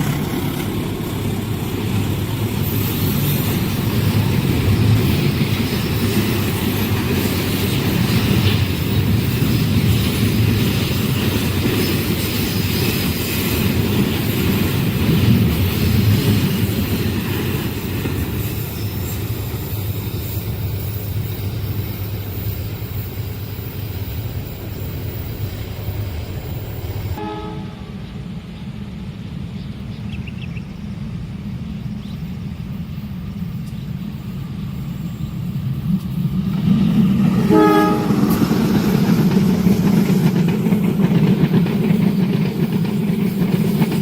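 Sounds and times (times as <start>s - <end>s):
passenger train passing: 0.0s - 44.0s.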